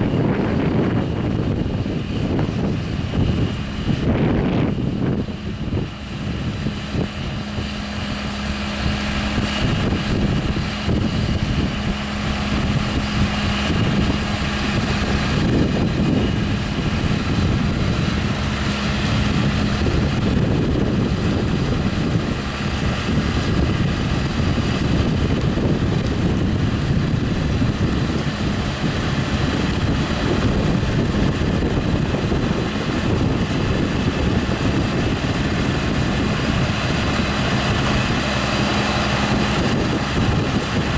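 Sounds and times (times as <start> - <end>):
tractor and harvester machinery drone: 0.0 - 40.9.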